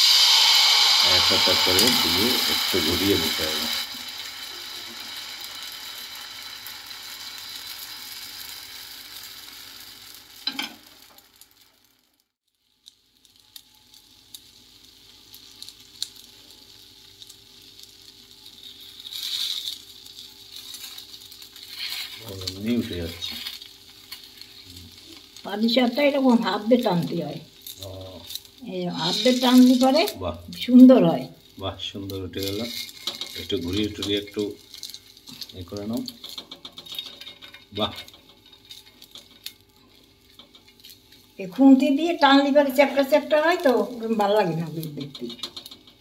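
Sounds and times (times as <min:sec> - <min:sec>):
batter sizzling in a pan: 0:00.0 - 0:46.0.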